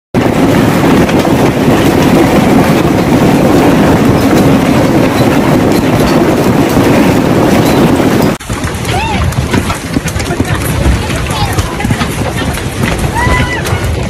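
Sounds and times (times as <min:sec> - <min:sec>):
storm rumble with small impacts: 0:00.2 - 0:14.0.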